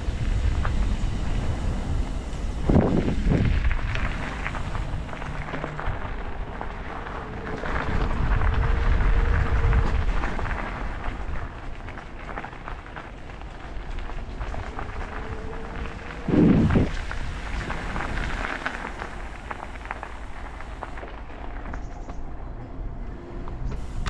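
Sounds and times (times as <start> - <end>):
road noise rumble: 0.0 - 24.0
wind buffeting microphone: 0.0 - 24.0.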